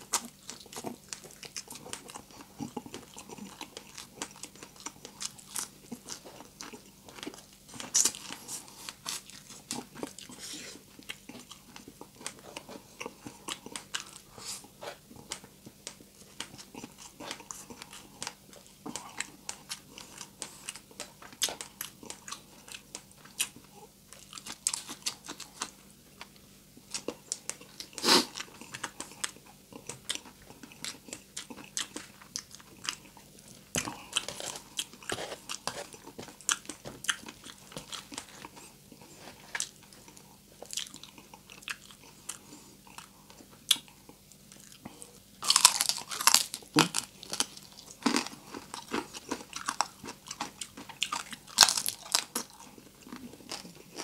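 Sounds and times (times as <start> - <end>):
chewing and crunching crispy food: 0.0 - 54.0.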